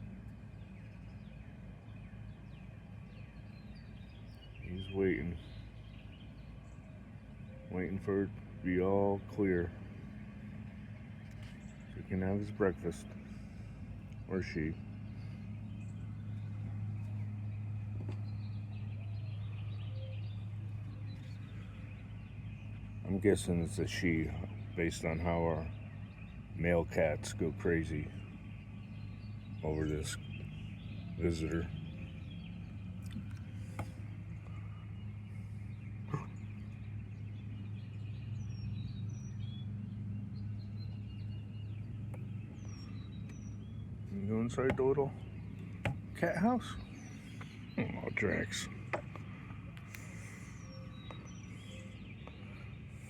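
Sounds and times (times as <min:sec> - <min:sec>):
faint bird chirps: 0:00.0 - 0:53.0
low machine hum: 0:00.0 - 0:53.0.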